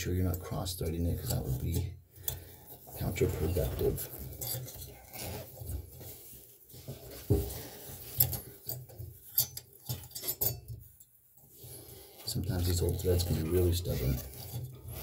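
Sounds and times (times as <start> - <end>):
spout rubbing and scraping on threads: 0.2 - 10.4, 11.4 - 15.0.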